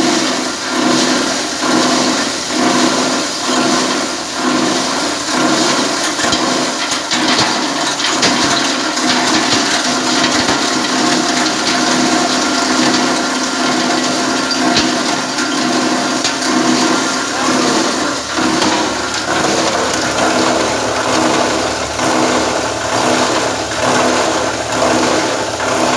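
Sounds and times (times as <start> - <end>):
machine hum: 0.1 - 25.9
plastic bottles being shredded: 0.7 - 25.9.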